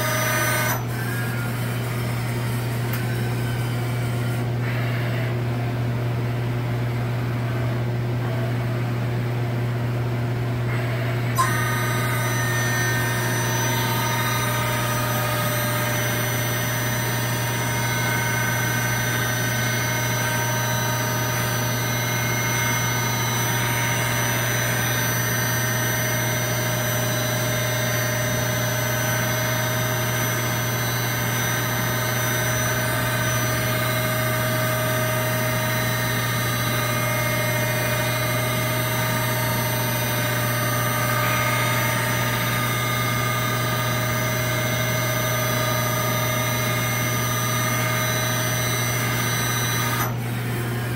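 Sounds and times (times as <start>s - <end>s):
high-pitched machine whine: 0.0s - 5.5s, 10.6s - 50.9s
machine humming: 0.0s - 50.9s.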